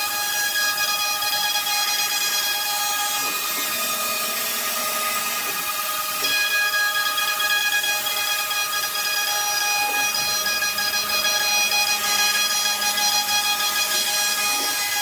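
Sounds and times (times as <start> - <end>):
router spindle whining: 0.1 - 15.0.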